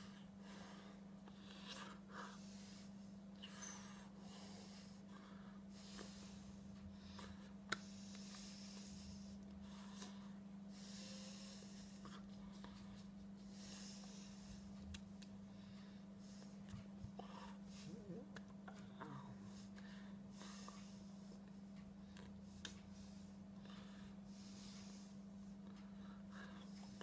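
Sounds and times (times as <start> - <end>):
soft breaths: 0.0 - 27.0
steady low hum: 0.0 - 27.0.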